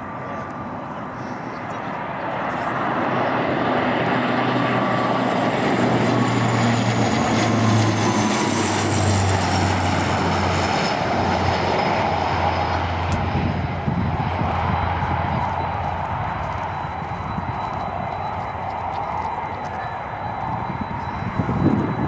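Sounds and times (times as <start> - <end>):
airliner passing low overhead: 0.0 - 22.0.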